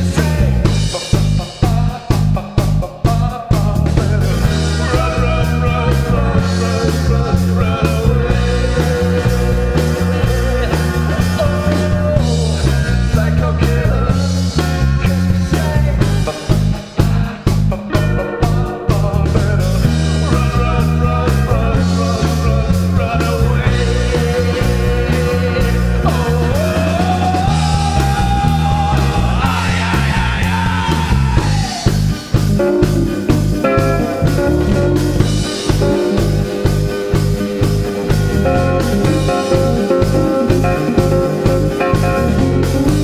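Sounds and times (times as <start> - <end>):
man singing: 0.0 - 36.3, 38.5 - 43.0
drum kit beat: 0.0 - 43.0
electric bass: 0.0 - 43.0
electric guitars: 0.0 - 43.0.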